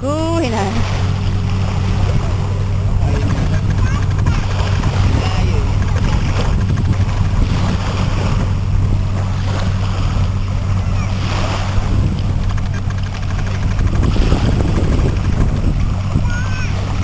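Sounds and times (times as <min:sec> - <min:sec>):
steady low hum: 0:00.0 - 0:17.0
water lapping and splashing: 0:00.0 - 0:17.0.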